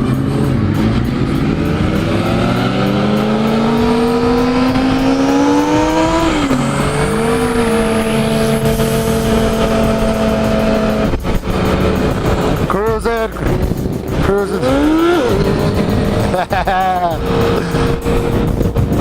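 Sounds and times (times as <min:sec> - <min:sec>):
motorcycle engine revving: 0:00.0 - 0:19.0
wind rushing over microphone: 0:00.0 - 0:19.0.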